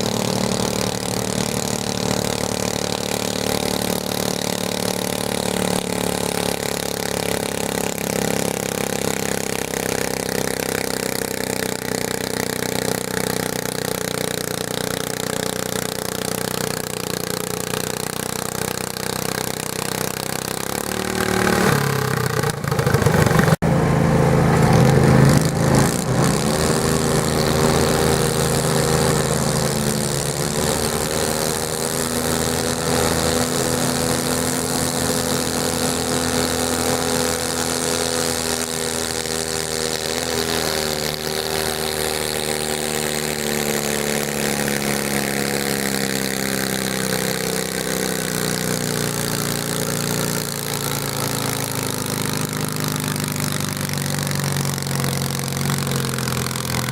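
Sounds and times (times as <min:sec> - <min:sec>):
garden tractor engine under load: 0:00.0 - 0:56.9.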